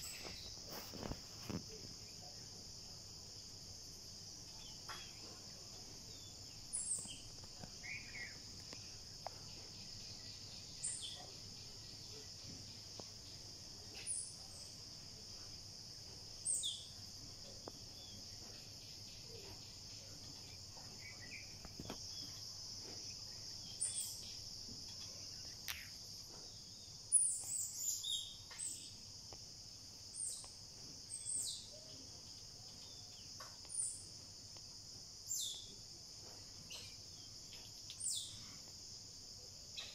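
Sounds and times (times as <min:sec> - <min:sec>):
high insect chorus: 0:00.0 - 0:39.9.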